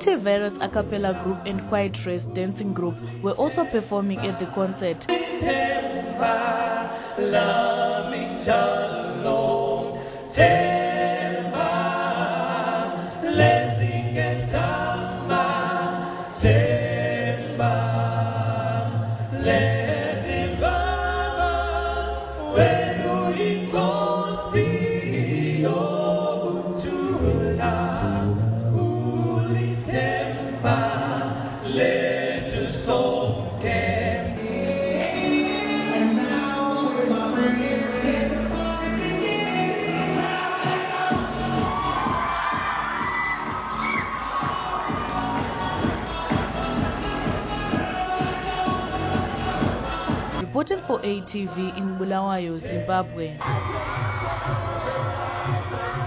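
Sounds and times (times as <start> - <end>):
vocal group singing in harmony: 0.0 - 56.0.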